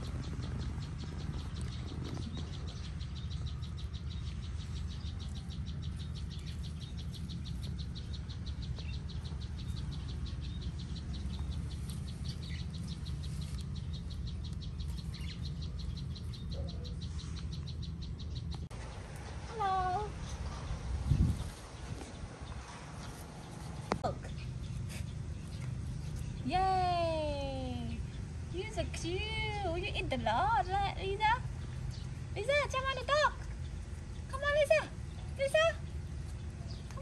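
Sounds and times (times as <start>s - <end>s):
low rumble: 0.0s - 29.7s.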